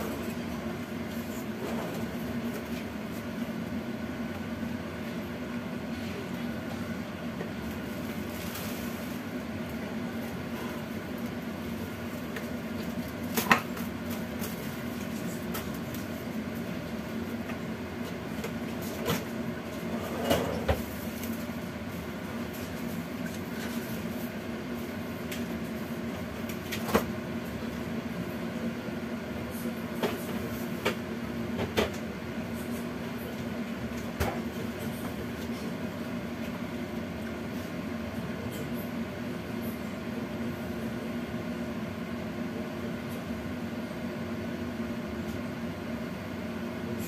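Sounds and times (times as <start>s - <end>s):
kitchen hum and hiss: 0.0s - 47.0s.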